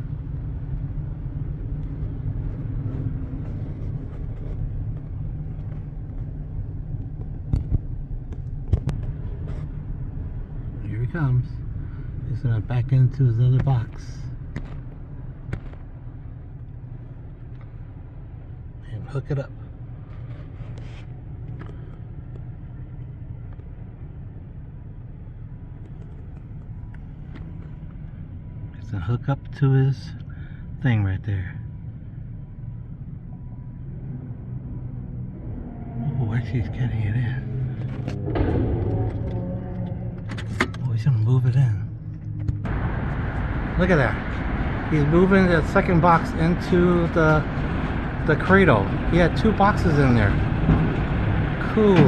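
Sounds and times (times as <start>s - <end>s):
truck engine rumbling: 0.0s - 28.8s, 31.4s - 52.0s.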